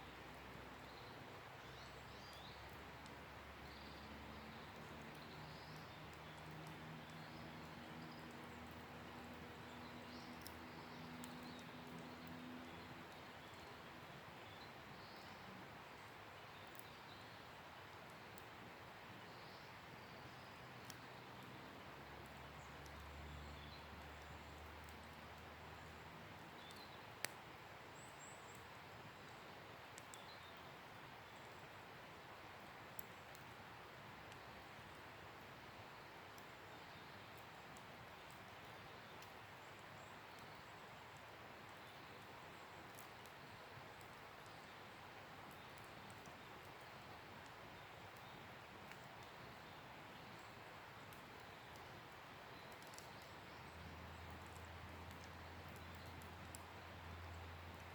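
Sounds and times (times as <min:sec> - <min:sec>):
campfire crackling and popping: 0:02.1 - 0:36.6, 0:37.2 - 0:57.9.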